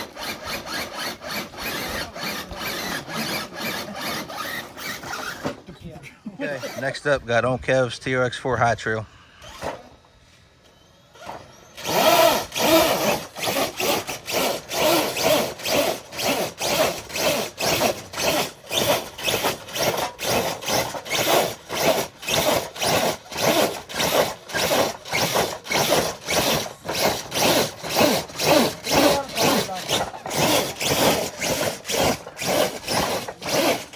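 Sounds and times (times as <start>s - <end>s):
toy truck grinding and scraping: 0.0s - 5.7s, 6.5s - 7.2s, 11.1s - 33.9s.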